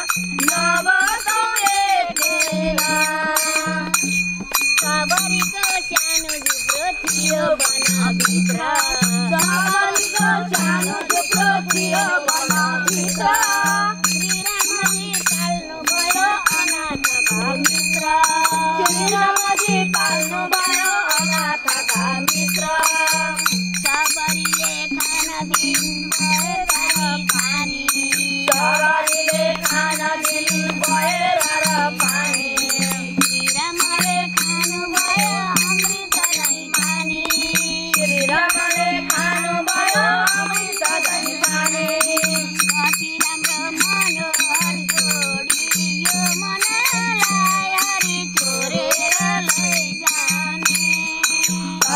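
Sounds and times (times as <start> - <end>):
hand cymbals clashing: 0.0 - 51.9
harmonium: 0.0 - 51.9
women singing a hymn: 0.0 - 51.9.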